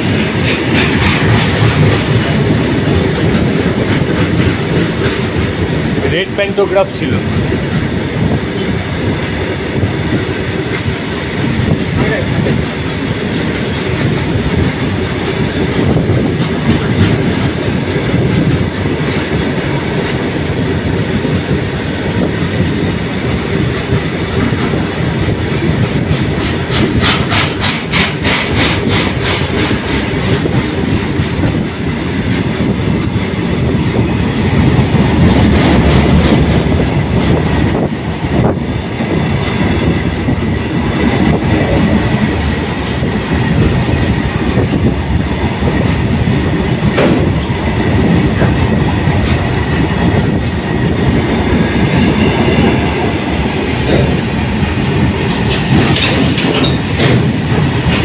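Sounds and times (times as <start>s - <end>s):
clickety-clack over rail joints: 0.0s - 58.0s
train wagons rumbling past: 0.0s - 58.0s.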